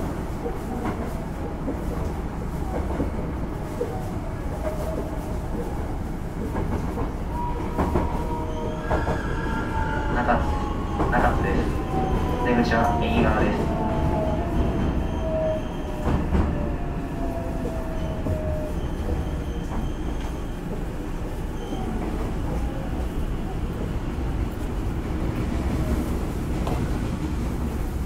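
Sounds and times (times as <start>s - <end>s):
wheels rumbling on rail: 0.0s - 28.0s.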